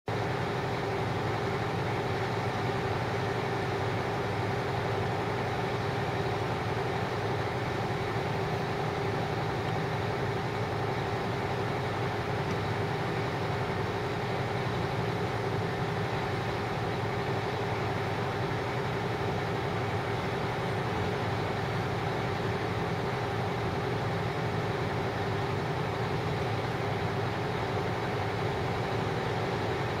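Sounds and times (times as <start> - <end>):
diesel engine idling: 0.1 - 30.0.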